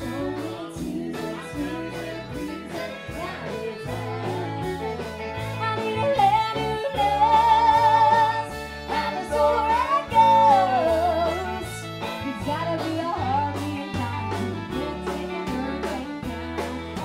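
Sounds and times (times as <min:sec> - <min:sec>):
band playing: 0:00.0 - 0:17.0
woman singing country song: 0:00.0 - 0:17.0.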